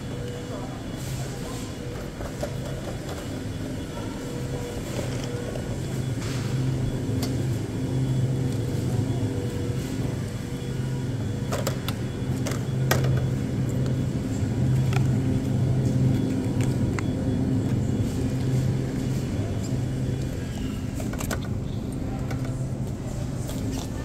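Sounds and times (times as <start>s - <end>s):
refrigeration machinery hum: 0.0s - 24.0s.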